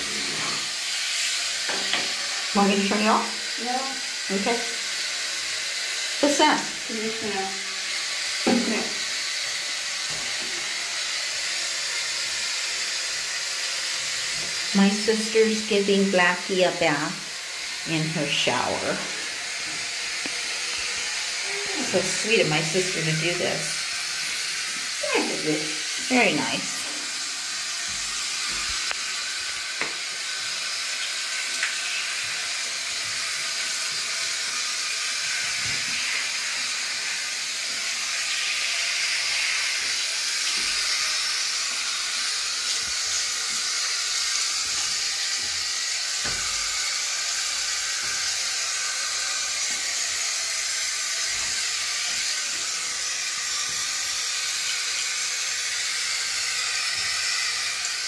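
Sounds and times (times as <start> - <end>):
shower spray running: 0.0 - 58.0.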